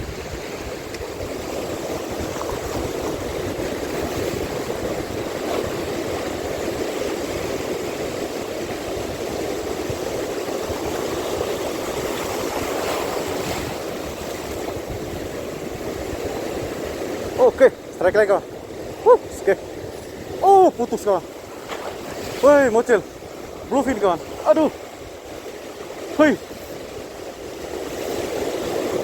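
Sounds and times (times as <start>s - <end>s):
sea water rushing: 0.0s - 29.0s.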